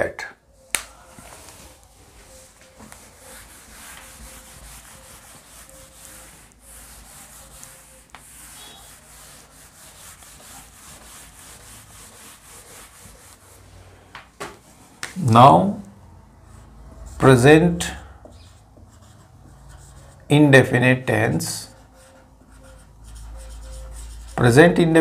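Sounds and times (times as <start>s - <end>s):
eraser rubbing whiteboard: 1.0s - 13.8s, 16.5s - 20.4s, 21.4s - 24.7s.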